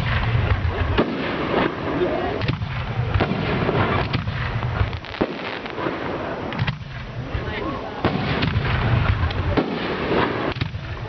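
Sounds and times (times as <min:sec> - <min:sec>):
firework bangs: 0:00.0 - 0:11.0
fireworks crackle and rumble: 0:00.0 - 0:11.0.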